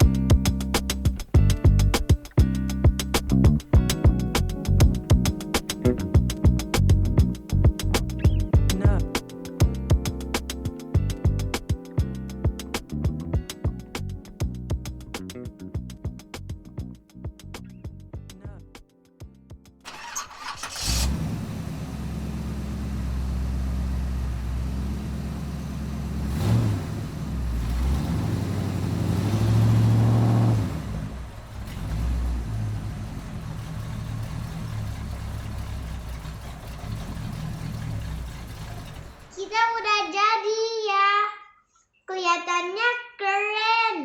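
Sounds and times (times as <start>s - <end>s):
car engine starting and running: 0.0s - 18.1s, 19.9s - 39.6s.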